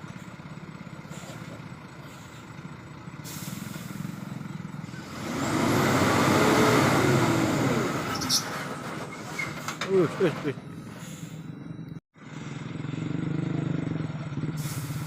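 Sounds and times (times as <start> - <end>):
diesel truck engine roaring: 0.0 - 15.0.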